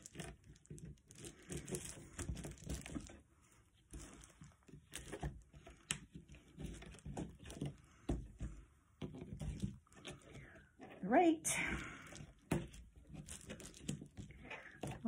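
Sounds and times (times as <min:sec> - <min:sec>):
reed strips rustling and crinkling: 0:00.0 - 0:15.0.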